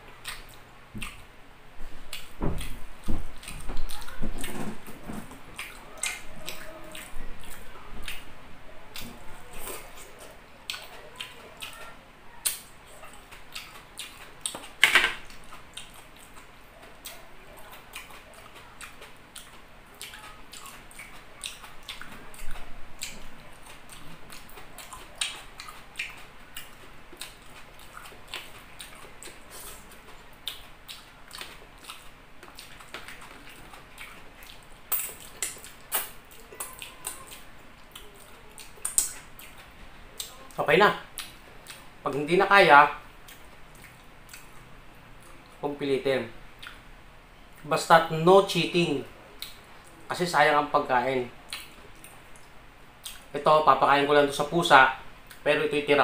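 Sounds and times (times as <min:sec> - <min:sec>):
chewing and lip-smacking: 0:00.1 - 0:01.3, 0:02.1 - 0:04.7, 0:05.5 - 0:42.3, 0:43.2 - 0:45.6, 0:46.6 - 0:46.8, 0:49.3 - 0:50.0, 0:51.4 - 0:53.3, 0:55.2 - 0:55.5.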